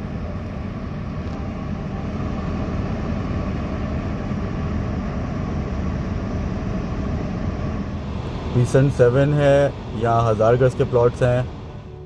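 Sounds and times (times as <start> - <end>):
car driving along road: 0.0 - 12.0.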